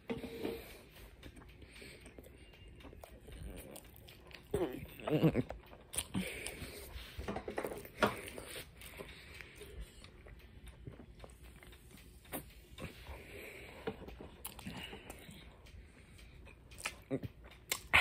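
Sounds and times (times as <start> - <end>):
person chewing: 0.2 - 18.0.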